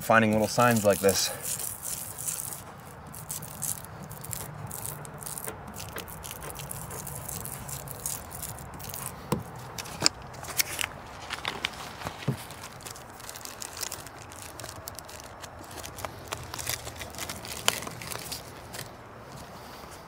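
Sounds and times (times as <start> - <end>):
sharp clicks and crunches: 0.0 - 19.0.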